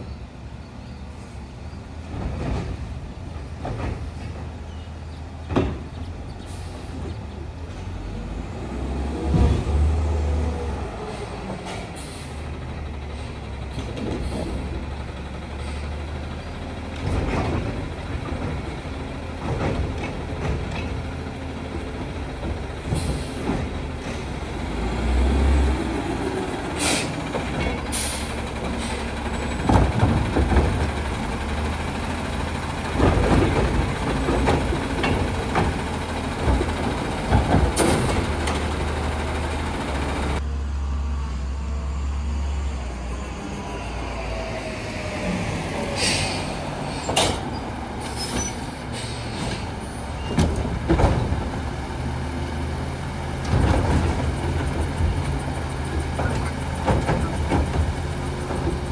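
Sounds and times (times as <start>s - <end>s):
diesel engine running: 8.2s - 58.9s.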